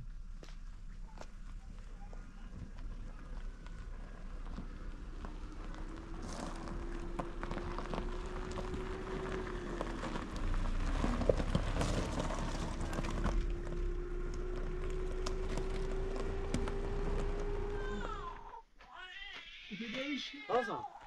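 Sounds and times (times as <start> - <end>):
low engine hum: 0.0 - 18.6
tyres crunching over gravel: 0.0 - 18.6.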